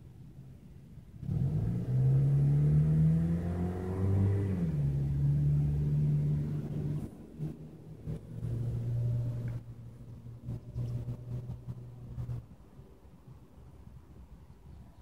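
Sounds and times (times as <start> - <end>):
engine humming: 1.1 - 13.4.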